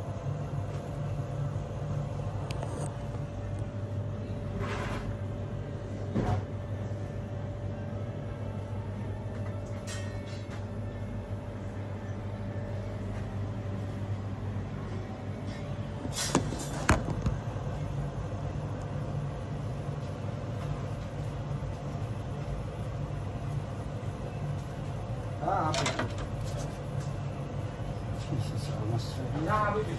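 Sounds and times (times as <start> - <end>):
kitchen machinery hum: 0.0 - 29.9.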